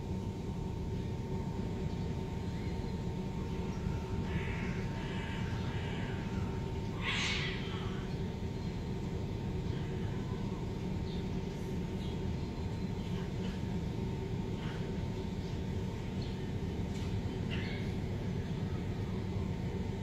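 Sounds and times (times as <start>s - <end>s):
low rumble of street traffic: 0.0s - 20.0s.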